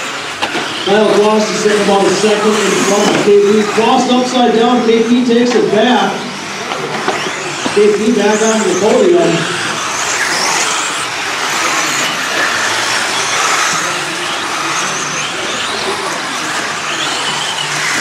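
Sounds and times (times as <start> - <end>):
electric motors whining: 0.0 - 18.0.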